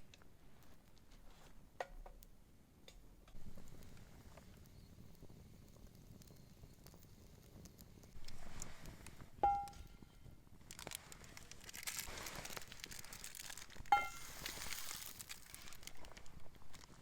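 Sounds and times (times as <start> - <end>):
rustling and crinkling: 0.0 - 1.7, 3.4 - 17.0.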